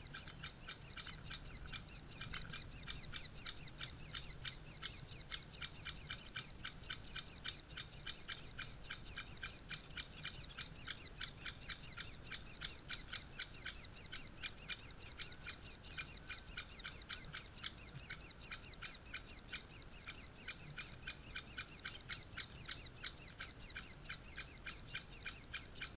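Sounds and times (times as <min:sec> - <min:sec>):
woodpecker nestlings begging calls: 0:00.0 - 0:26.0.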